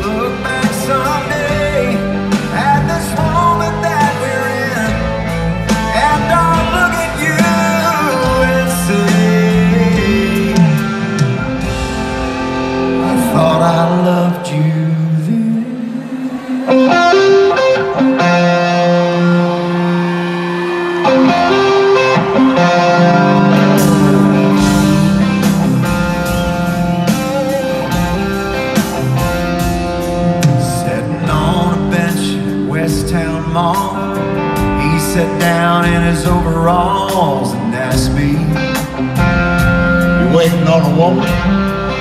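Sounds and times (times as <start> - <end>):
electric guitar notes: 0.0 - 42.0
live country-rock band: 0.0 - 42.0.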